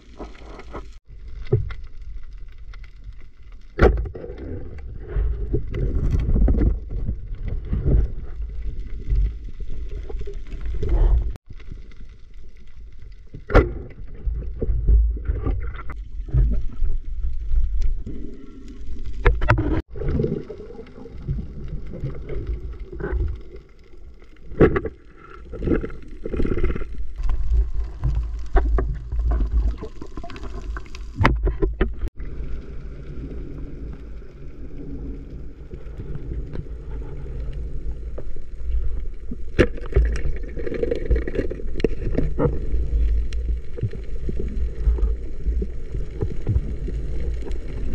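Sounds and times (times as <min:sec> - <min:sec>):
muffled underwater rumble: 0:00.0 - 0:47.9
water gurgling: 0:03.8 - 0:47.9.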